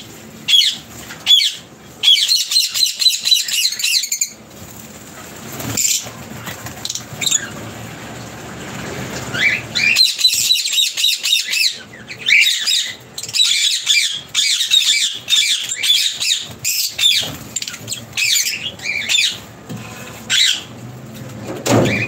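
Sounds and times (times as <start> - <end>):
lovebirds chirping and squawking: 0.0 - 7.8, 9.1 - 20.8, 21.7 - 22.0.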